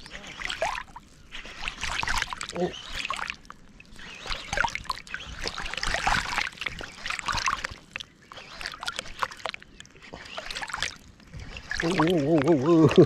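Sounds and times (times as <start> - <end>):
river water sloshing and splashing: 0.0 - 13.0
water drips and clicks: 0.0 - 13.0.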